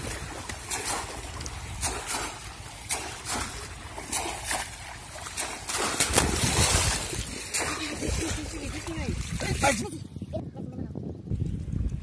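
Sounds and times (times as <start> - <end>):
fish traps splashing into water: 0.0 - 9.7
legs wading through water: 0.0 - 10.1.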